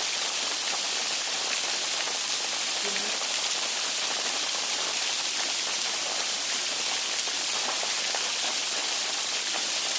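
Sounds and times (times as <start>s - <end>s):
heavy rain falling: 0.0s - 9.9s.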